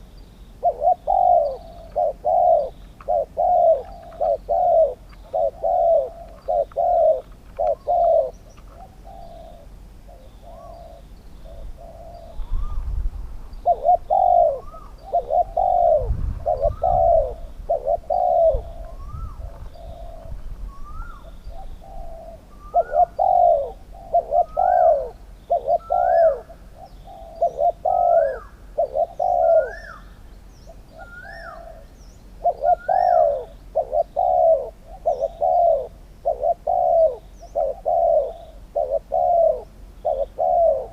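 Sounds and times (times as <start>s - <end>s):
doves cooing: 0.0s - 12.8s, 13.6s - 40.9s.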